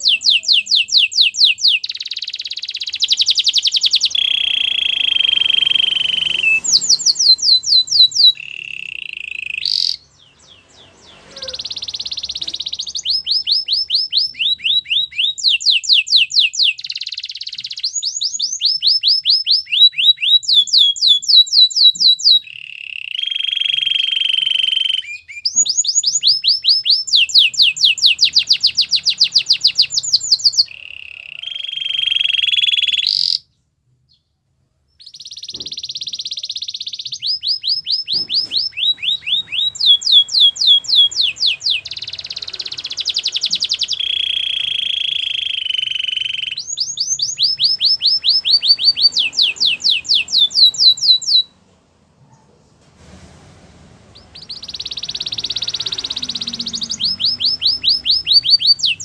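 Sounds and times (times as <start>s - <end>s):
canary singing: 0.0s - 34.3s, 34.9s - 51.6s, 54.0s - 59.0s.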